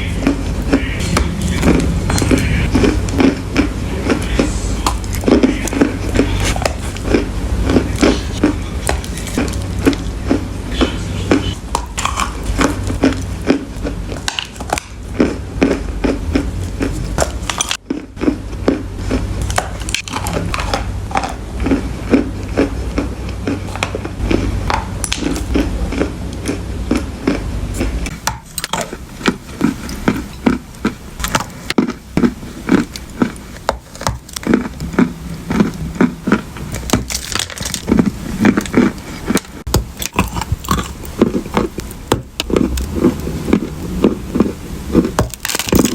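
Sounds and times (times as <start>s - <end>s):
chewing dry clay crunches: 0.0s - 45.9s.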